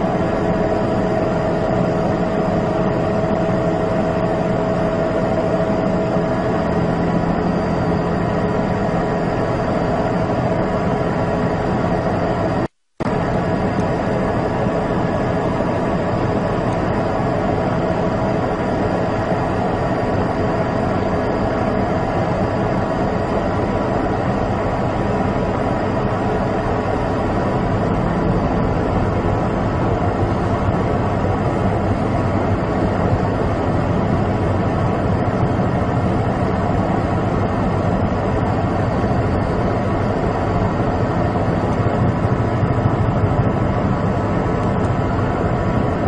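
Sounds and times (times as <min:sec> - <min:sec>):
engine drone: 0:00.0 - 0:46.0.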